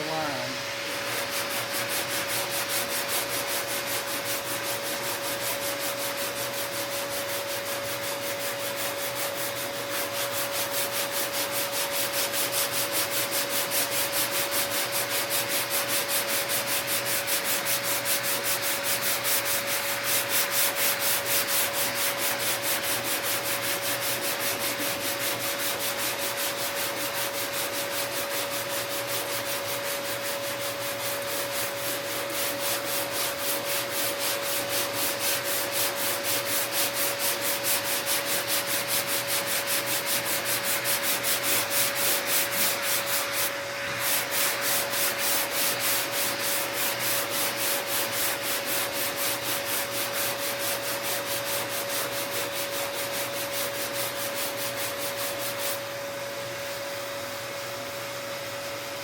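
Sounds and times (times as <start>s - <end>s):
sanding block rubbing: 0.0s - 55.8s.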